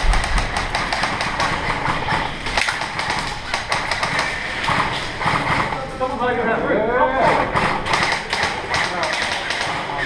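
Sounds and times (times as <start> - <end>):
airsoft gunfire: 0.0 - 5.8, 7.5 - 10.0.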